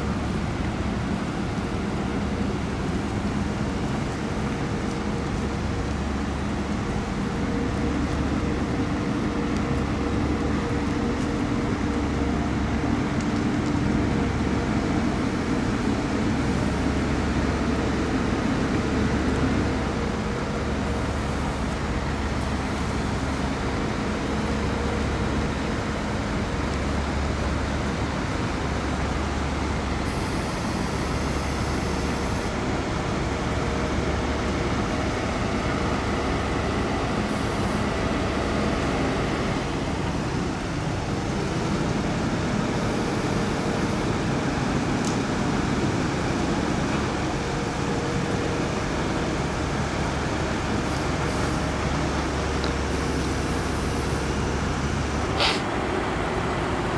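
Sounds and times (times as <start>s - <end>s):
road noise: 0.0s - 56.9s
truck diesel engines droning: 0.0s - 56.9s.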